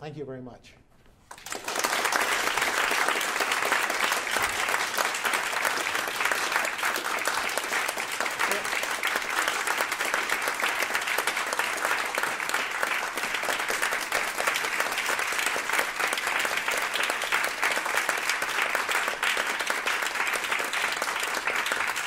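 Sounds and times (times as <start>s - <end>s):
audience applauding: 1.3s - 22.0s.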